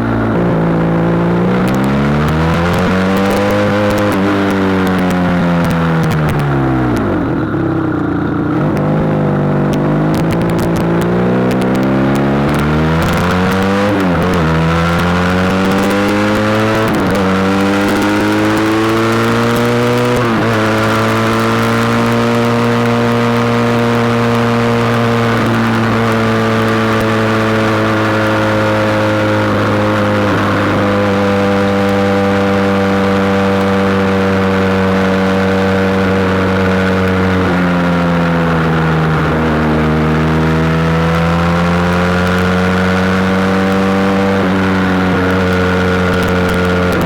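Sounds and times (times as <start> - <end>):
motorcycle engine shifting gears: 0.0 - 47.0.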